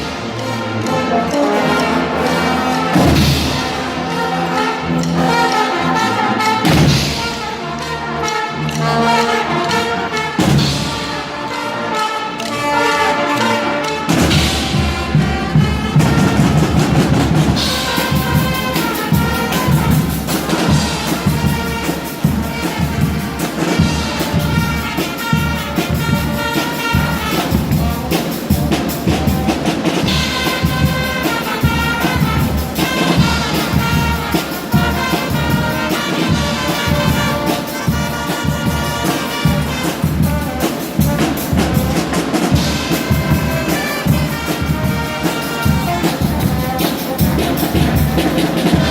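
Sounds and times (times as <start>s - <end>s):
drums keeping steady beat: 0.0s - 48.9s
loud brass horns: 0.0s - 48.9s.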